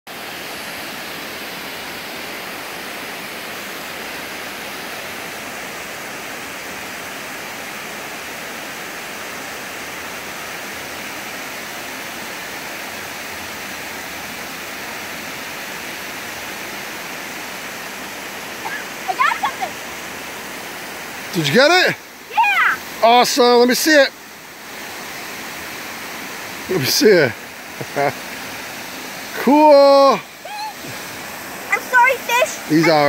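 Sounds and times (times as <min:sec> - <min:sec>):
water rushing over a dam spillway: 0:00.1 - 0:33.0.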